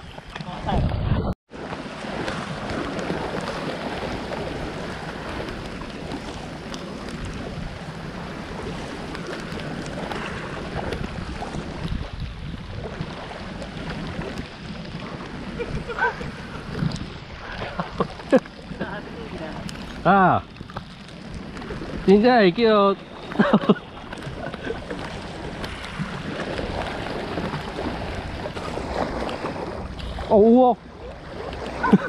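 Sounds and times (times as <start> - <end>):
sea washing against rocks: 0.0 - 32.0
wind on microphone: 0.0 - 32.0.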